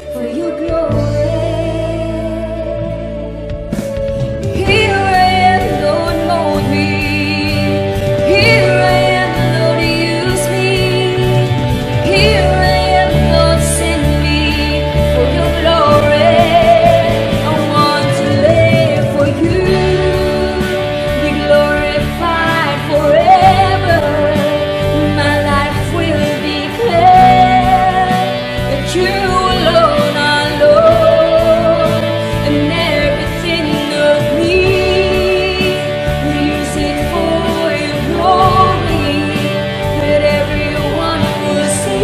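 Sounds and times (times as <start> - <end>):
instrumental accompaniment with beat: 0.0 - 42.0
person singing: 4.5 - 42.0.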